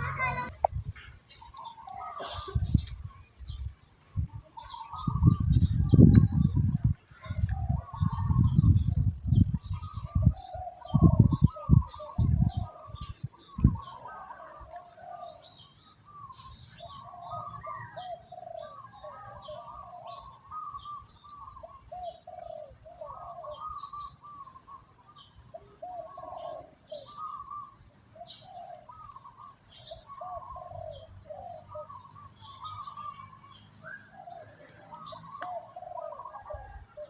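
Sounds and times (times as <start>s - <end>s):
birds calling: 0.0s - 37.0s.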